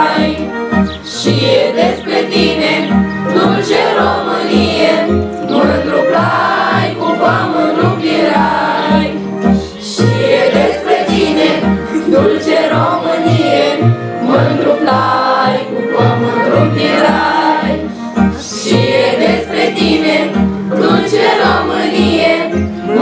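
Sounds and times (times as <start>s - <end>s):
children's choir singing: 0.0s - 23.0s
instrumental backing track: 0.0s - 23.0s.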